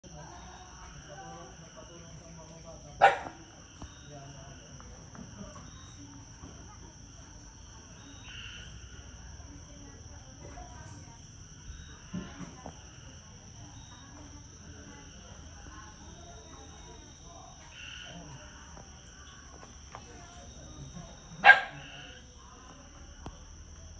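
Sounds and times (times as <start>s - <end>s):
crickets droning: 0.0s - 23.9s.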